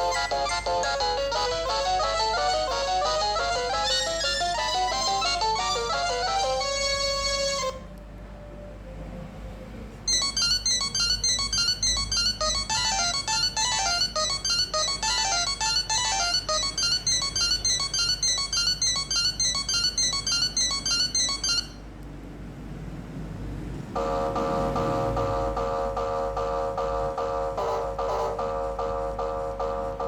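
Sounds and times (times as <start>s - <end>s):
electronic ringtone melody: 0.0s - 7.9s, 10.1s - 21.8s, 24.0s - 30.0s.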